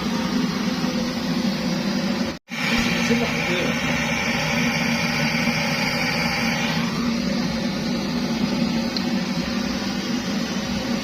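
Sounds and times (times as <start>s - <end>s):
pressure stove hissing: 0.0s - 11.0s.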